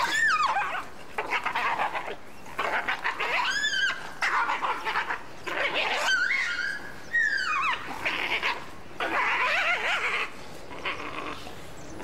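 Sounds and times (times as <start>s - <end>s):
wolves' high sliding cries: 0.0s - 11.8s
wolves snarling: 0.0s - 12.0s.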